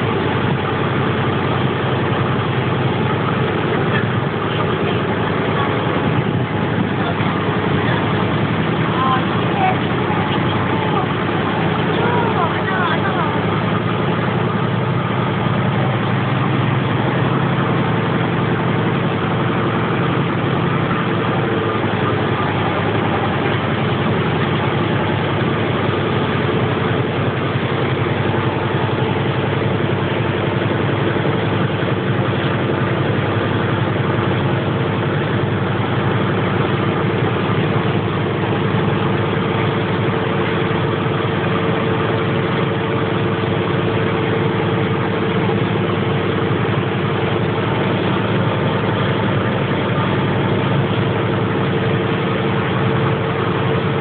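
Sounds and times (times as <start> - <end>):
boat engine drone: 0.0 - 54.0.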